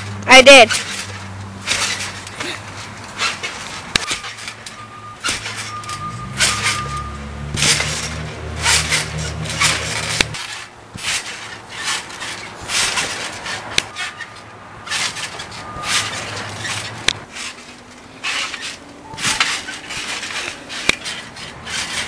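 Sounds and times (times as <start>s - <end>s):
trampoline springs creaking: 0.0s - 22.0s.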